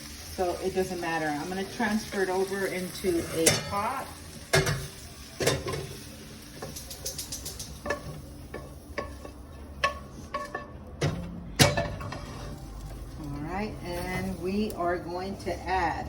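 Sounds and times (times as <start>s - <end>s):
light sizzle: 0.0s - 16.0s
utensil scraping frying pan: 0.4s - 15.8s.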